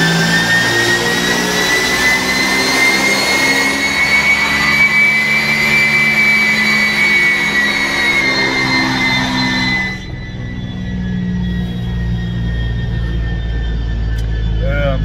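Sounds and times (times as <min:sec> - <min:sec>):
car engine drone under load: 0:00.0 - 0:15.0
loud high whine: 0:00.0 - 0:15.0.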